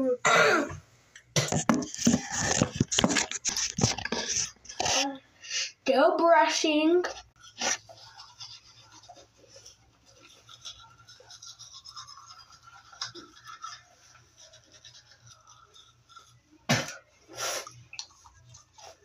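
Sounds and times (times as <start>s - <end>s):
toothbrush scrubbing teeth: 1.4s - 5.2s, 7.0s - 19.0s.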